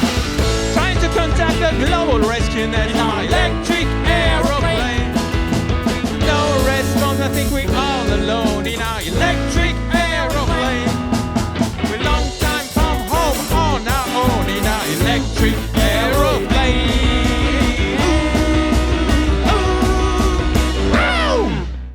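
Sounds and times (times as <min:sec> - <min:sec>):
bass line: 0:00.0 - 0:21.9
drums on a steady beat: 0:00.0 - 0:21.9.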